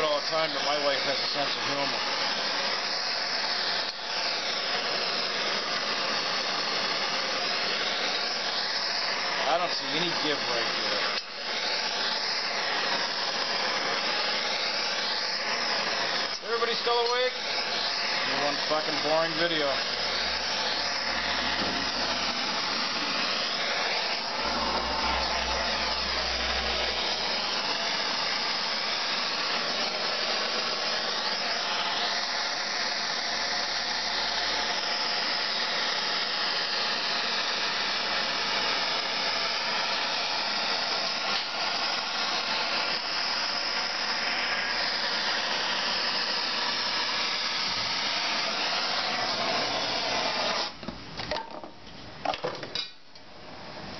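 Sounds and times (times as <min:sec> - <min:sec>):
gas torch hissing: 0:00.0 - 0:50.9.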